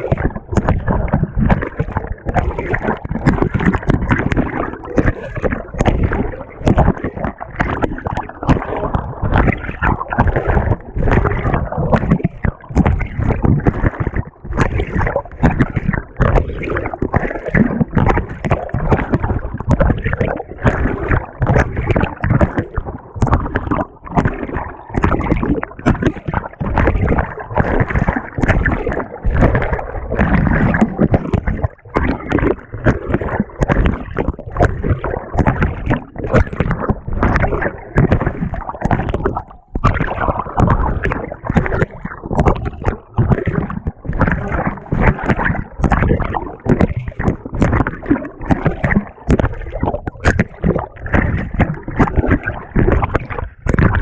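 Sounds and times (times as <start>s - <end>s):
water sloshing in washing machine: 0.0s - 54.0s.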